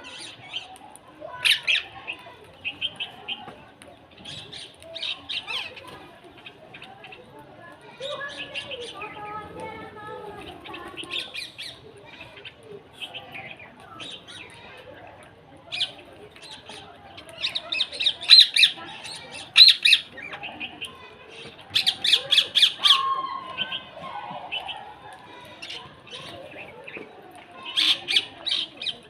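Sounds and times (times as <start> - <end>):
birds chirping and squawking: 0.0 - 3.5, 4.1 - 7.4, 8.0 - 9.6, 10.2 - 29.0.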